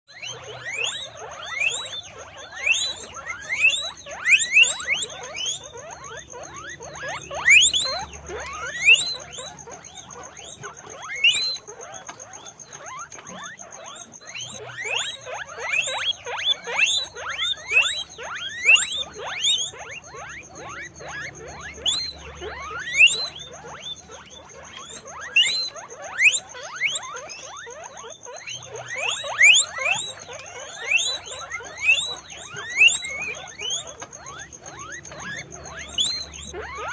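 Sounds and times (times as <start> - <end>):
guinea pigs squeaking: 0.1 - 36.9.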